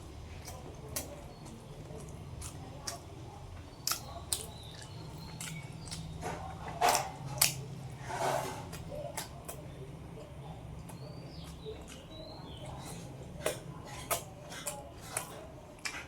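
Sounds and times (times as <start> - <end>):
chewing and mouth smacks: 0.3 - 7.6, 10.2 - 16.0.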